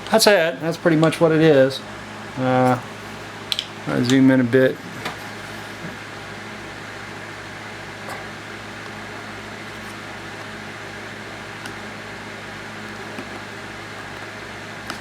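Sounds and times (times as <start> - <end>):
fan hum and hiss: 0.0 - 15.0.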